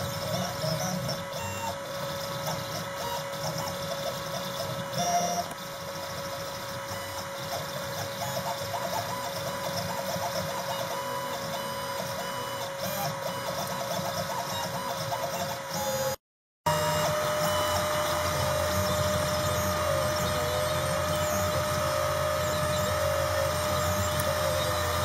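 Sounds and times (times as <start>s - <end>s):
steady machine whine: 0.0s - 25.0s
stepper motors whining: 0.0s - 25.0s.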